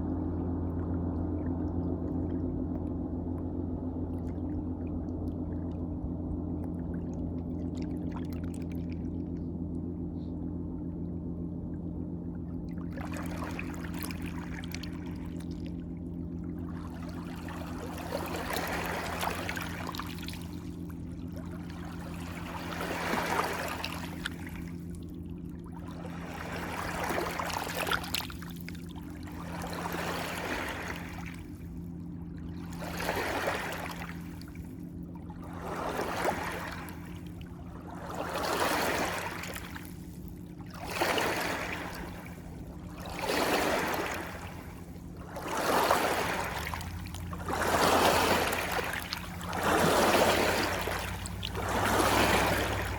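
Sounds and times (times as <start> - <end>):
steady low hum: 0.0 - 52.9
water lapping: 3.9 - 9.4, 12.3 - 52.9.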